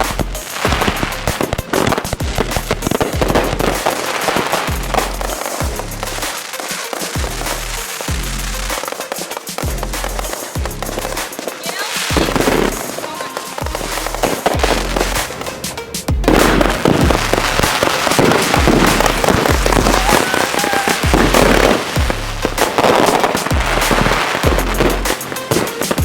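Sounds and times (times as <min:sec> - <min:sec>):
fireworks crackling bursts: 0:00.0 - 0:26.0
music with steady bass beat: 0:00.0 - 0:26.0.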